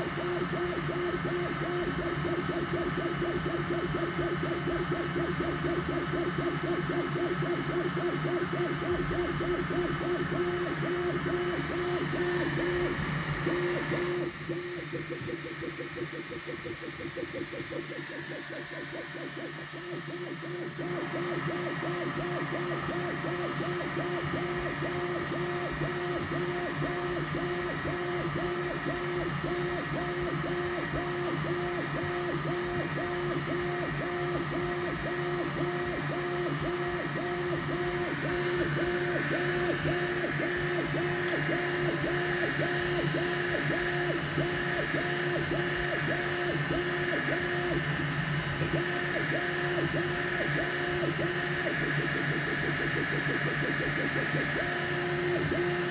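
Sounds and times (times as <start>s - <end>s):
printer motors whining: 0.0s - 55.9s.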